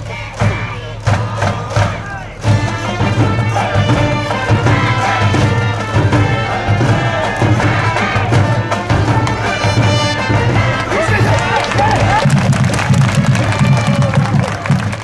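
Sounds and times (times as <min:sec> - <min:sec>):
steady drumbeat: 0:00.0 - 0:15.0
brass band playing: 0:02.5 - 0:15.0.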